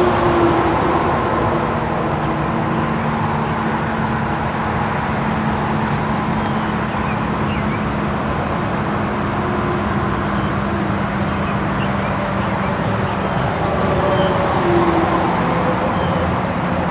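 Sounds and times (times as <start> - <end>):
highway traffic roar: 0.0 - 16.9.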